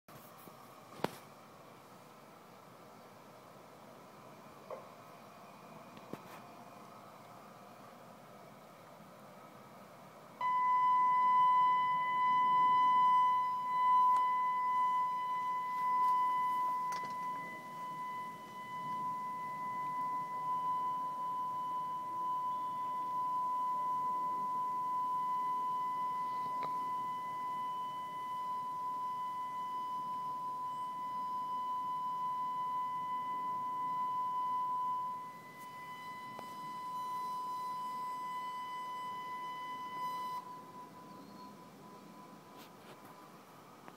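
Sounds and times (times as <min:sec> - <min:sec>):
tornado siren steady tone: 0:08.5 - 0:43.9.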